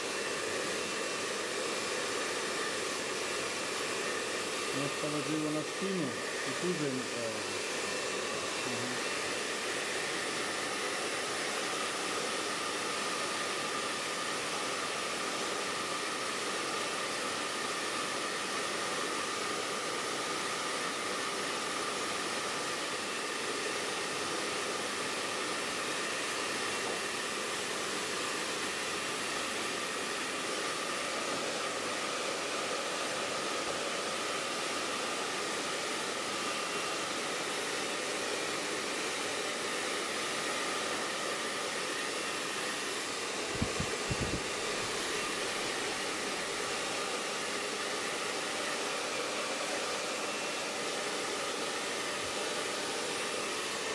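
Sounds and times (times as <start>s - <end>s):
hair dryer blowing: 0.0s - 53.9s.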